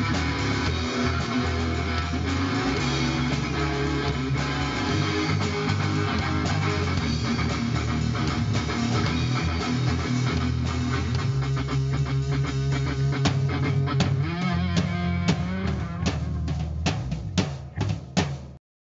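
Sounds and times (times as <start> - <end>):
rock band playing live: 0.0 - 18.5.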